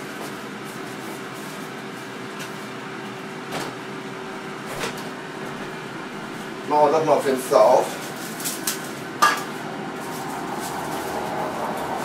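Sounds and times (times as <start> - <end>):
air fryer fan humming: 0.0 - 12.0.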